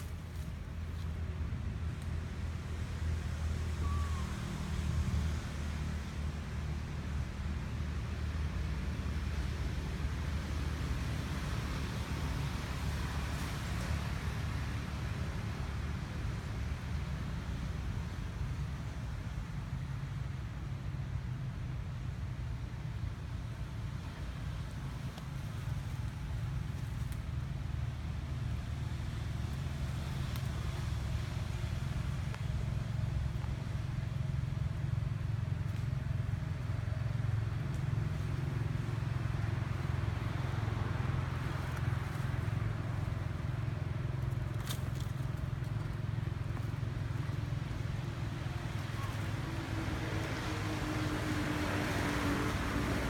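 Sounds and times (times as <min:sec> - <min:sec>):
low outdoor rumble: 0:00.0 - 0:53.0.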